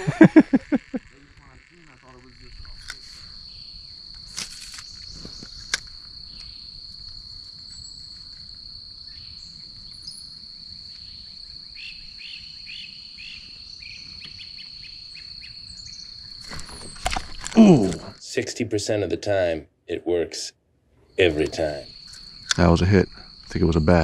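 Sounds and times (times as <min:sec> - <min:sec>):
insects trilling: 0:00.0 - 0:20.5, 0:21.1 - 0:24.0.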